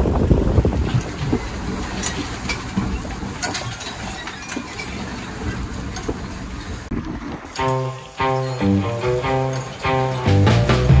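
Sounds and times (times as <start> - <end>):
low rumble of boat: 0.0 - 11.0.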